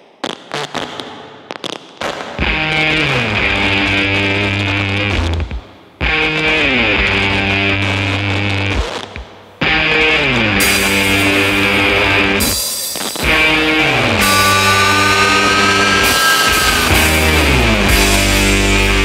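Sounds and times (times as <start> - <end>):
rock music with guitar: 2.4 - 19.0.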